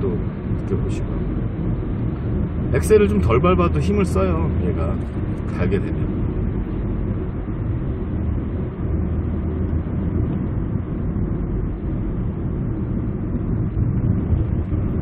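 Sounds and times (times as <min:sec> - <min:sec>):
car engine and tyres droning: 0:00.0 - 0:15.0.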